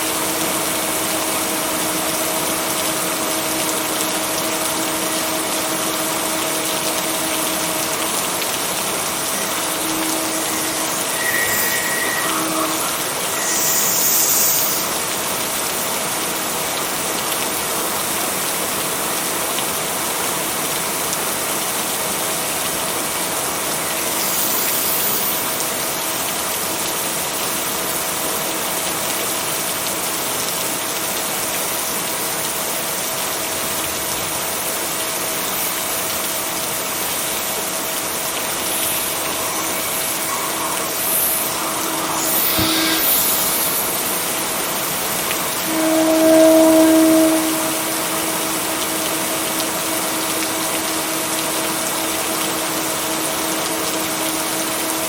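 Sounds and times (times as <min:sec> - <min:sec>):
heavy rainfall hiss: 0:00.0 - 0:55.0.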